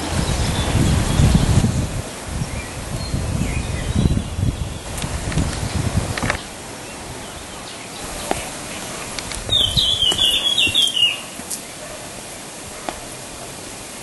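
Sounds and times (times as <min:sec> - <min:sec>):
songbird singing: 0:00.0 - 0:13.1
steady outdoor hiss: 0:00.0 - 0:14.0.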